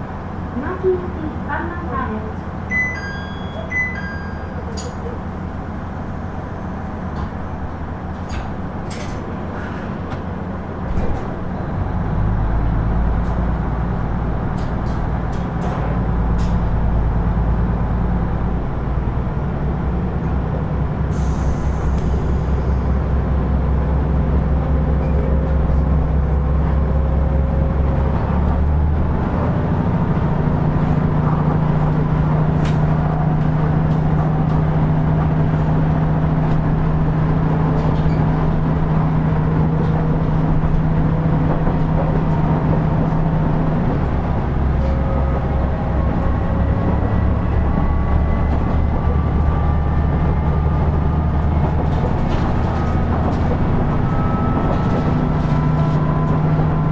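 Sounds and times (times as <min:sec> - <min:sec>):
diesel engine running: 0:00.0 - 0:56.9
wheel and rail noise: 0:04.0 - 0:56.9.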